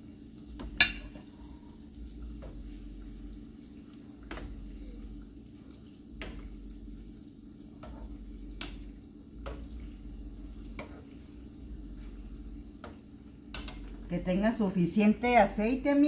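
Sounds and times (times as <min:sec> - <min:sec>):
doughnuts sizzling in hot oil: 0:00.0 - 0:16.0
steady low hum: 0:00.0 - 0:16.0.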